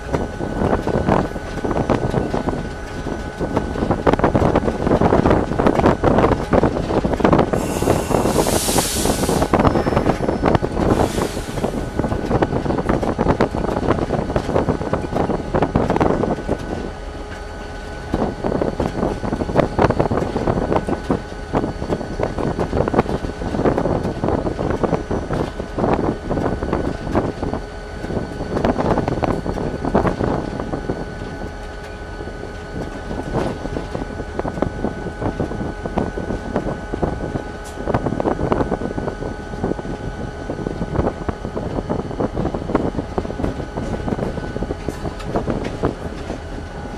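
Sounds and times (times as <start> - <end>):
diesel locomotive engine running: 0.0 - 46.9
wheels on rails: 0.0 - 46.9.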